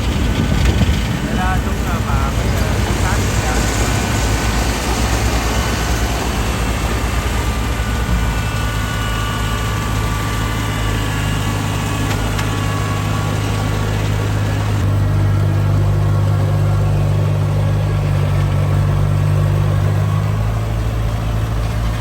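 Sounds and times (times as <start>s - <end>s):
harvester diesel engine humming: 0.0s - 22.0s.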